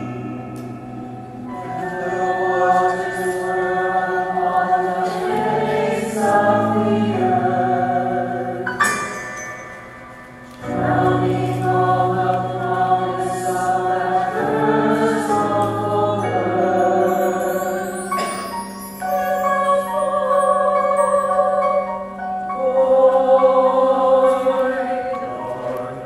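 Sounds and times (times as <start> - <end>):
mixed choir singing: 0.0 - 26.0.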